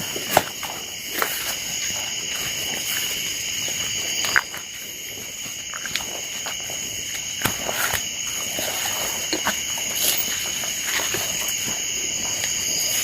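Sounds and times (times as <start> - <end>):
footsteps crunching through undergrowth: 0.0 - 13.0
night insects trilling: 0.0 - 13.0.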